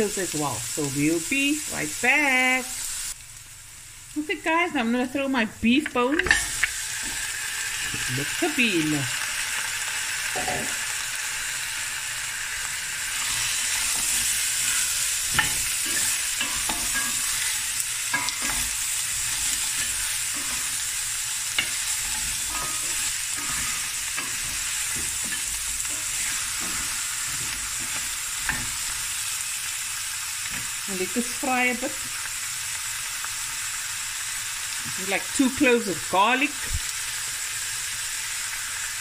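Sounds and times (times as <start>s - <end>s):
bones and onions sizzling in oil: 0.0s - 39.0s.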